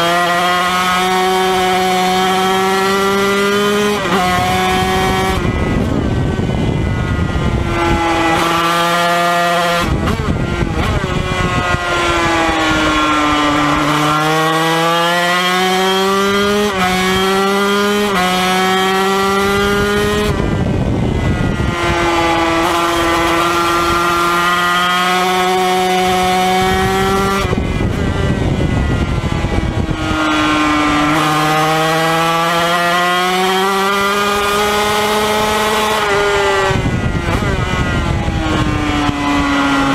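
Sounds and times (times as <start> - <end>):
racing motorcycle engine revving: 0.0 - 39.9
wind rushing noise: 0.0 - 39.9.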